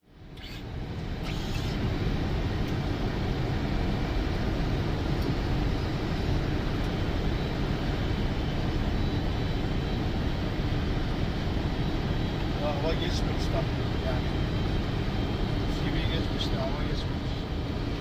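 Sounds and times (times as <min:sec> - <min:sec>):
airflow and engine noise: 0:00.0 - 0:18.0.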